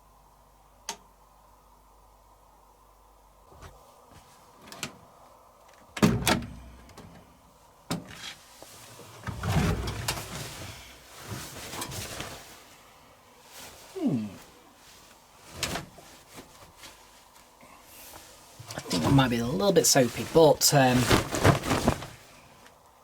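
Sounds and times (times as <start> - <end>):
laundry rustling: 3.5 - 23.0.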